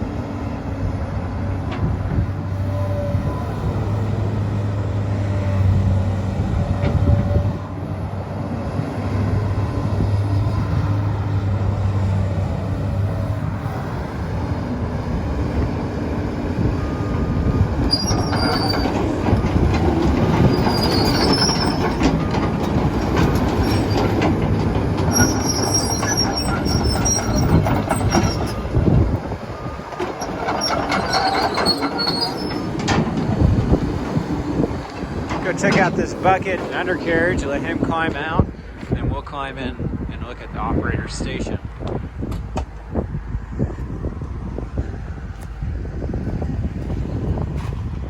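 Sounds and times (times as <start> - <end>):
steel tracks clanking and squealing: 0.0 - 39.5
excavator diesel engine running: 0.0 - 48.0.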